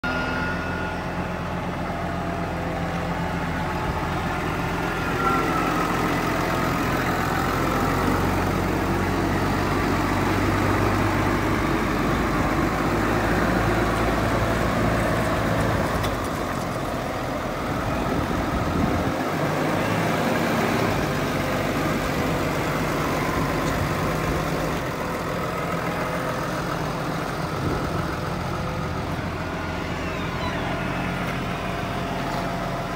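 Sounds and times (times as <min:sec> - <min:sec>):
tractor diesel engine idling: 0:00.0 - 0:32.9.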